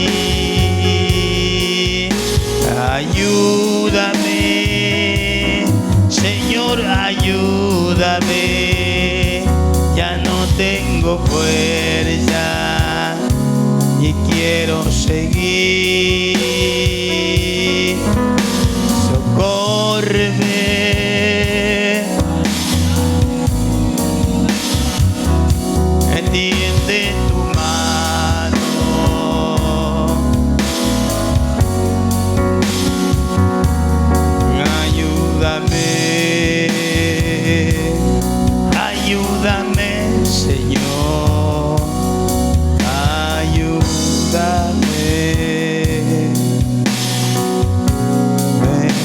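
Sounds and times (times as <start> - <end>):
person singing worship song: 0.0 - 31.8, 34.4 - 47.7, 48.4 - 49.0
drum kit steady beat: 0.0 - 49.0
keyboard and guitar: 0.0 - 49.0.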